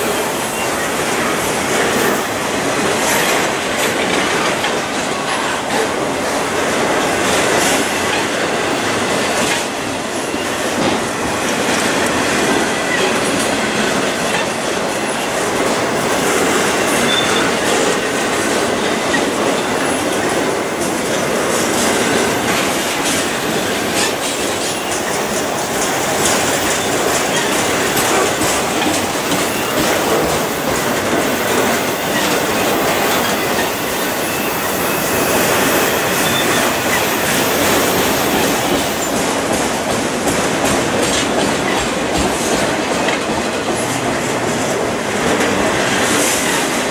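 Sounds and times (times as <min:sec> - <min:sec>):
train wheels rumbling on rails: 0:00.0 - 0:46.9
wheels clicking over rail joints: 0:01.2 - 0:46.9.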